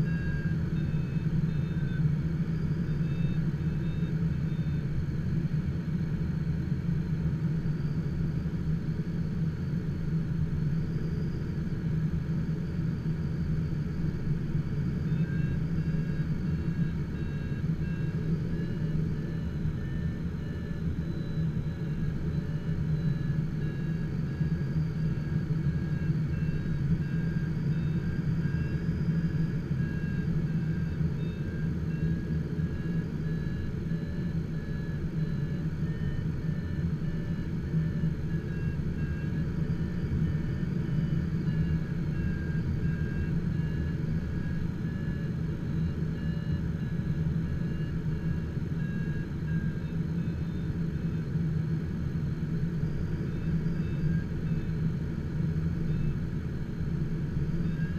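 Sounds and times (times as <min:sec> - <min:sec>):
aircraft cockpit drone: 0:00.0 - 0:57.9.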